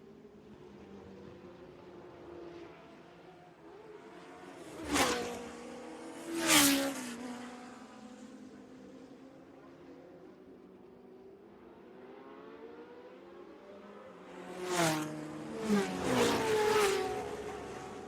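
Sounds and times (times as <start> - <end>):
racing cars passing by: 0.4 - 10.0, 11.5 - 18.0.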